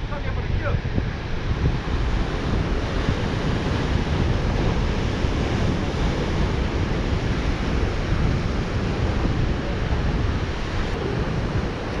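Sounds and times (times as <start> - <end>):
wind buffeting microphone: 0.0 - 12.0
surf breaking over rocks: 0.6 - 12.0.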